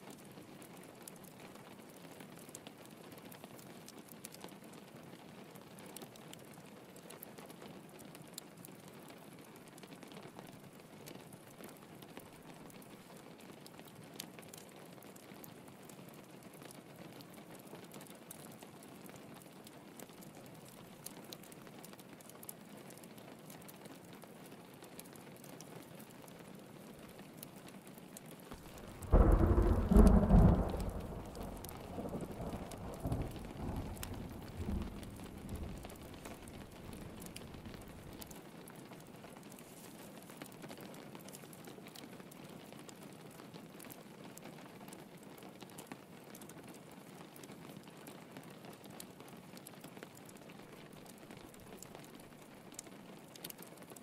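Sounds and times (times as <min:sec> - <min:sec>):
rain pattering on a window: 0:00.0 - 0:54.0
small ticks and pops: 0:00.0 - 0:54.0
wood fire crackling: 0:00.1 - 0:48.0, 0:48.6 - 0:54.0.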